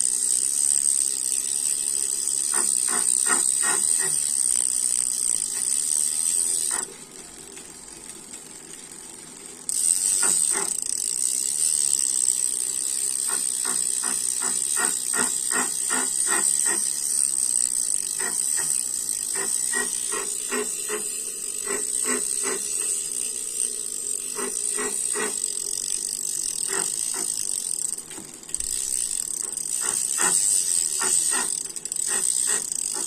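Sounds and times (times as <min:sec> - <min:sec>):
freehub sharp clicks: 0:00.3 - 0:33.0.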